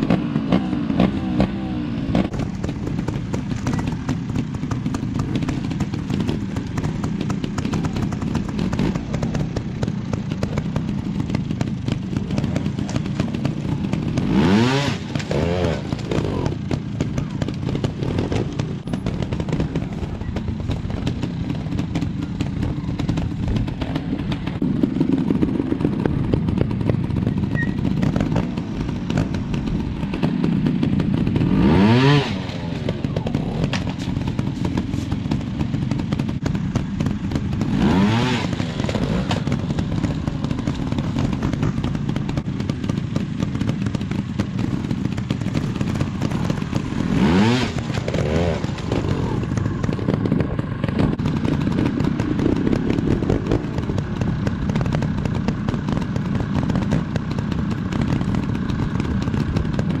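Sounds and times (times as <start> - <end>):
motorcycle engine idling: 0.0 - 60.0
motorcycle throttle blips: 0.0 - 60.0.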